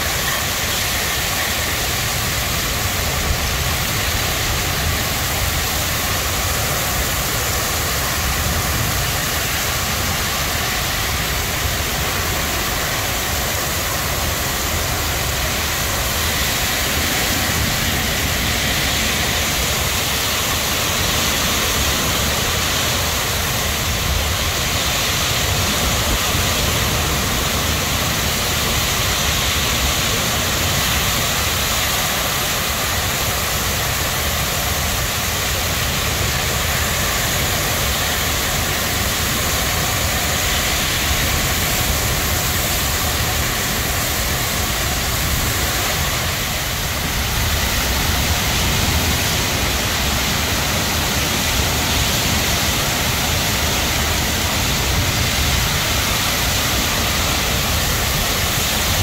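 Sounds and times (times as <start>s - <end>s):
strong wind: 0.0s - 59.0s
torrential rain pouring: 0.0s - 59.0s.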